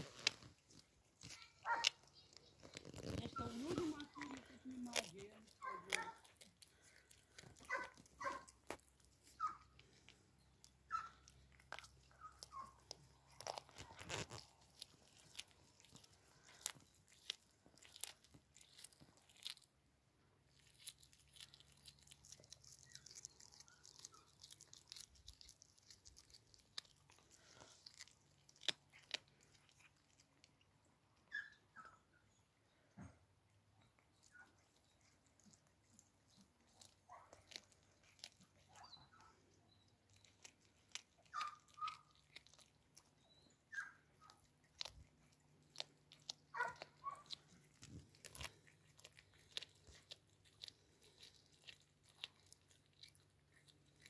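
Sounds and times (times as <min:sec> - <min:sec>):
cat crunching fish: 0:00.0 - 0:54.0.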